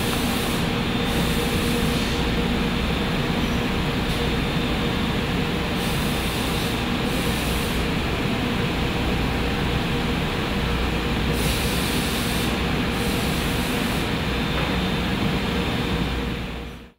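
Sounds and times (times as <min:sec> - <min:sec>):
forklift engine running: 0:00.0 - 0:16.7.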